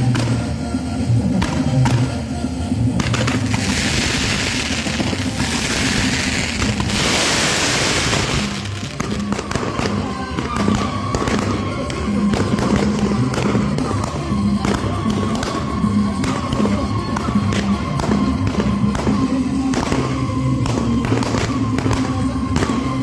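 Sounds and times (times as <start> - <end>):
fireworks crackling pops: 0.0 - 23.0
fireworks hissing: 0.0 - 23.0
music playing: 0.0 - 23.0.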